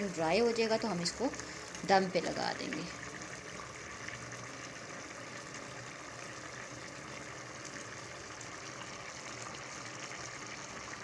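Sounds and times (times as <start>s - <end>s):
pot boiling and bubbling: 0.0s - 11.0s.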